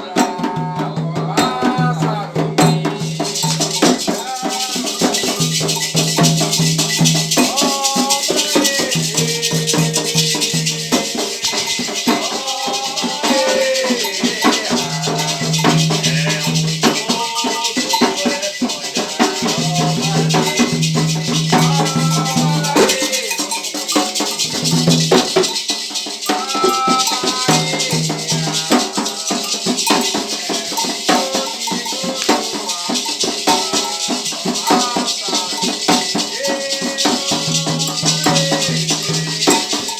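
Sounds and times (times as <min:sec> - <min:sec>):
voices singing: 0:00.0 - 0:39.9
hand rattles shaking: 0:01.3 - 0:39.9.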